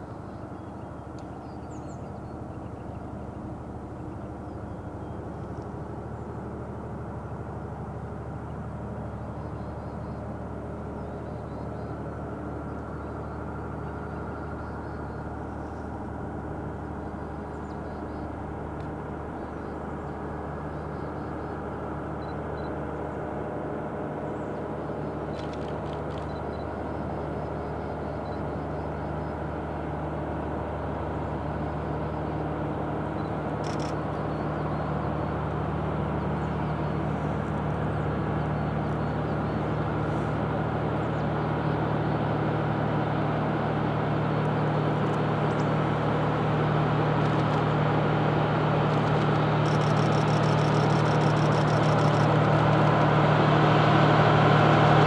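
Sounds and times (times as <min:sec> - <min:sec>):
diesel train engine droning: 0:00.0 - 0:55.0.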